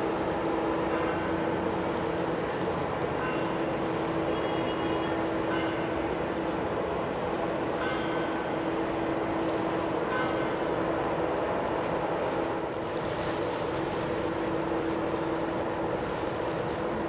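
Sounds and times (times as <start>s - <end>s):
ship engines droning: 0.0s - 17.0s.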